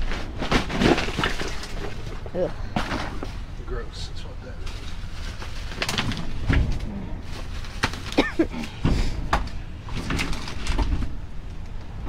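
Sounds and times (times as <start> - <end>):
junk knocking and rustling: 0.0 - 3.6, 4.6 - 12.0.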